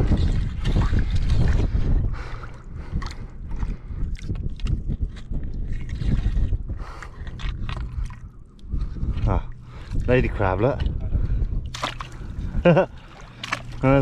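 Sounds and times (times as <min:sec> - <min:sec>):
low rumble: 0:00.0 - 0:14.0
water sloshing and splashing: 0:00.0 - 0:14.0.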